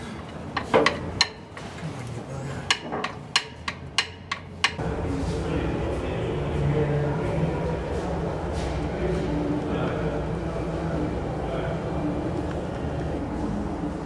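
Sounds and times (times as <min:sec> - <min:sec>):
low workshop rumble and hum: 0:00.0 - 0:14.0.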